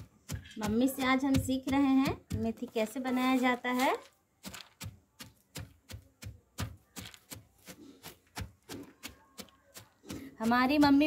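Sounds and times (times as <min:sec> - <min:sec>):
stone pestle pounding nuts: 0:00.0 - 0:11.0.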